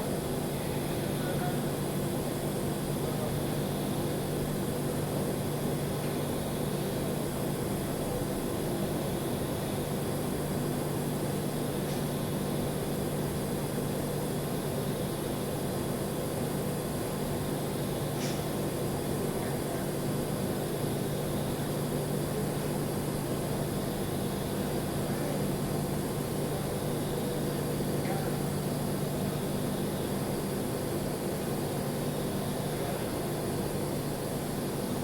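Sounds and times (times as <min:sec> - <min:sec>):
welding arc humming and hissing: 0:00.0 - 0:35.0.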